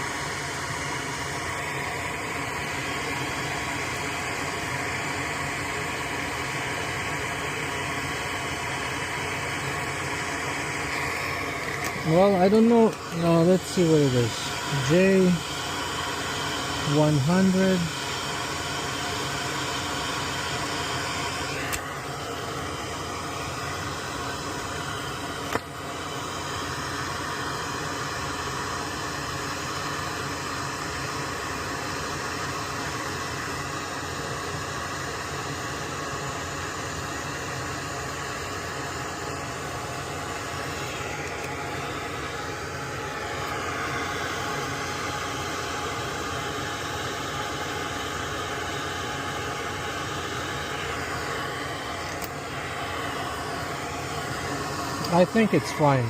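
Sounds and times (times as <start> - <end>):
blower hissing: 0.0 - 56.0.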